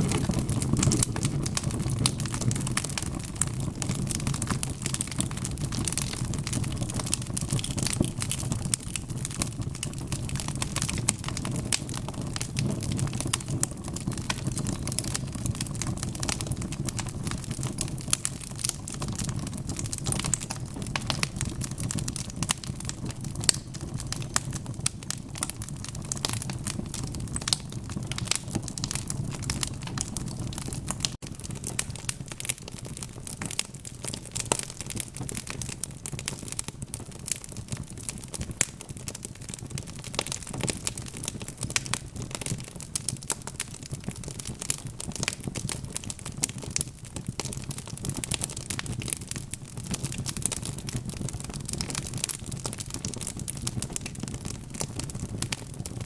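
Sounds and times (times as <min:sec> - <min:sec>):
burning logs snapping and popping: 0:00.0 - 0:56.0
low rumble of flames: 0:00.0 - 0:56.0.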